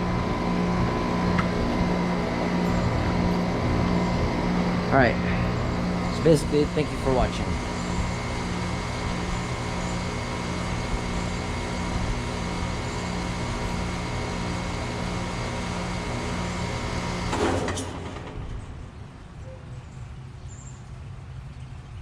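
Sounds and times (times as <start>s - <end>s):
compressor hum: 0.0s - 19.4s
condenser fan rushing: 0.0s - 19.4s.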